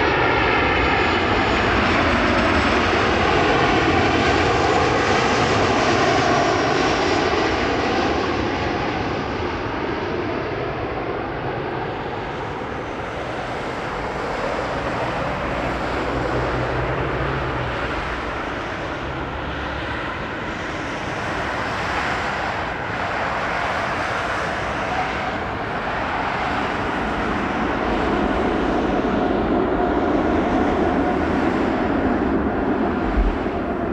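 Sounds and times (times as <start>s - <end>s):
jet engines roaring: 0.0s - 33.9s.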